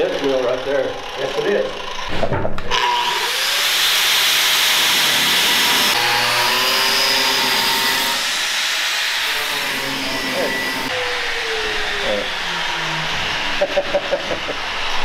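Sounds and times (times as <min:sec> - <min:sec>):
angle grinder motor whine: 0:02.7 - 0:15.0
grinder disc cutting metal: 0:02.7 - 0:15.0.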